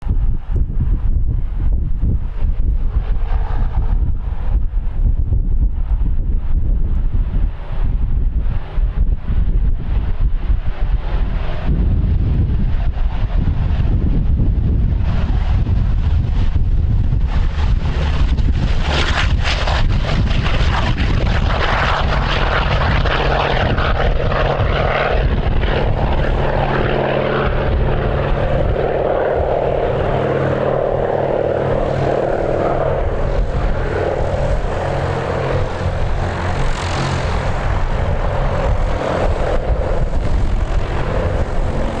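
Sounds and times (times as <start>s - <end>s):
propeller aircraft engine drone: 0.0s - 42.0s
wind buffeting microphone: 0.0s - 42.0s.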